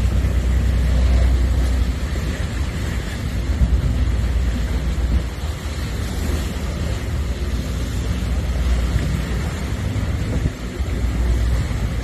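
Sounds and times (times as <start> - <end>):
water splashing against pier: 0.0 - 12.0
wind gusting on microphone: 0.0 - 12.0.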